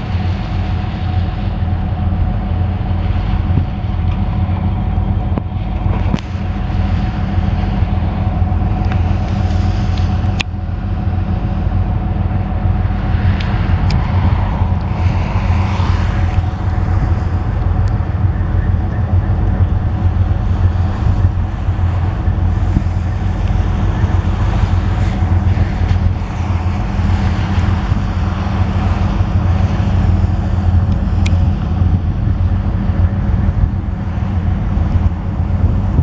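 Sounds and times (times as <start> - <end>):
locomotive engine humming: 0.0 - 36.0.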